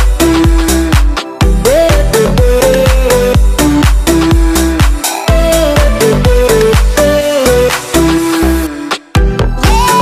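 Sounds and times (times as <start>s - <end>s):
upbeat dance music: 0.0s - 10.0s.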